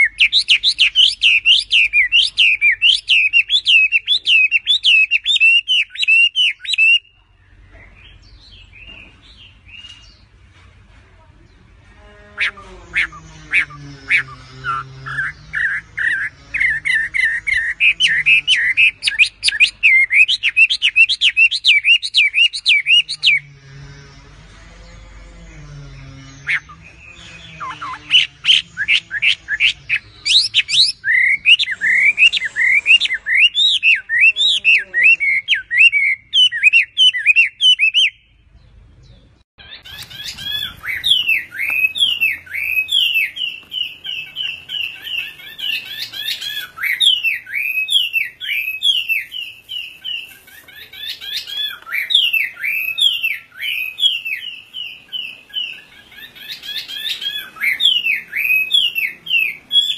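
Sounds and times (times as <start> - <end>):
bird singing whistled notes: 0.0 - 7.2, 13.0 - 23.5, 26.0 - 38.4, 39.6 - 59.9.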